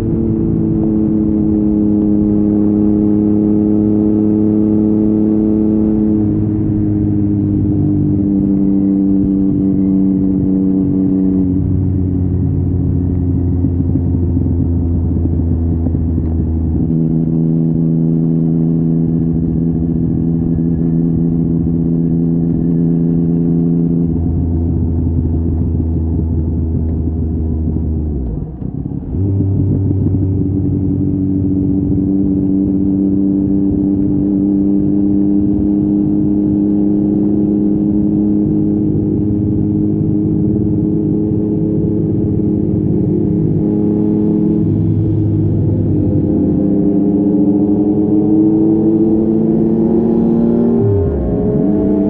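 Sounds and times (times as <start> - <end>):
motorcycle engine cruising: 0.0 - 52.0.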